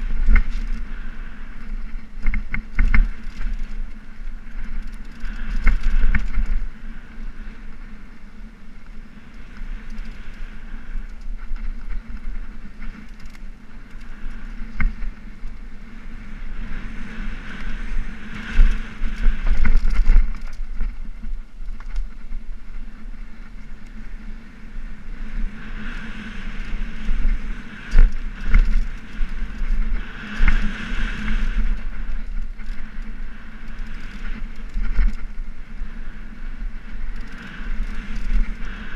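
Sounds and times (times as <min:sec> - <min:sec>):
bike rattling: 0:00.0 - 0:38.9
wind rumbling on microphone: 0:00.0 - 0:38.9.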